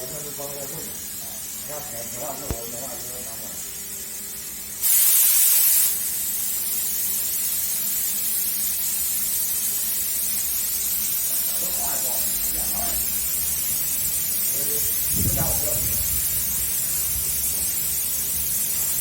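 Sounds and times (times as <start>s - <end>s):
spray hissing: 0.0s - 19.0s.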